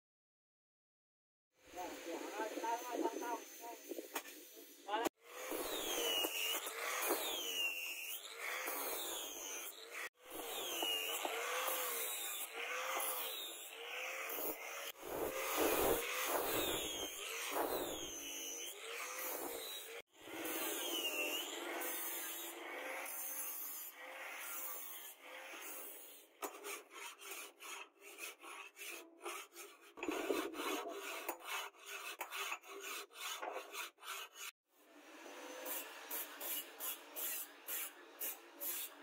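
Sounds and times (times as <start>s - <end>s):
angle grinder grinding steel blade: 1.8s - 39.0s
hand file rasping on blade: 2.4s - 34.6s, 35.6s - 39.0s.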